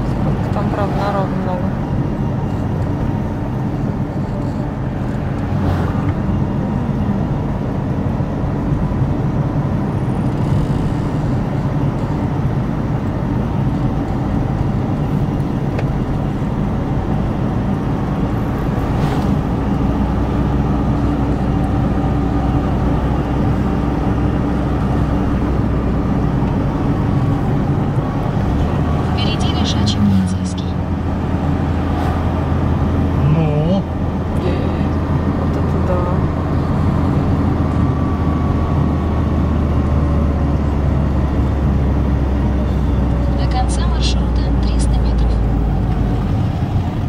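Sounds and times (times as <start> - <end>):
car engine and tyre hum: 0.0 - 47.0.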